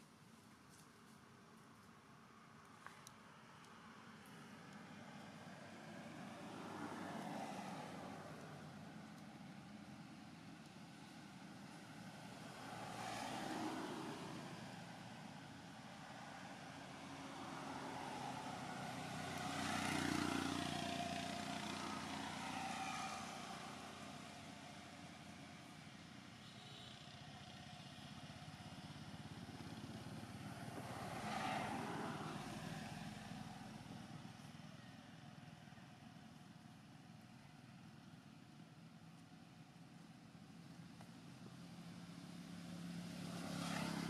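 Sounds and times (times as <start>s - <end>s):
motor vehicles passing by: 2.6s - 44.0s.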